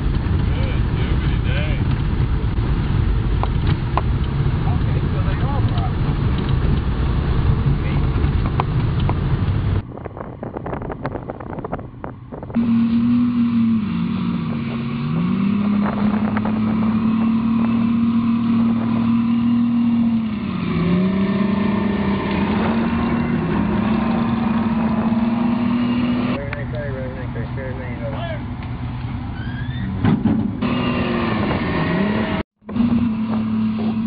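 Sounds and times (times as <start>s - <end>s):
tracked vehicle engines droning: 0.0s - 34.0s.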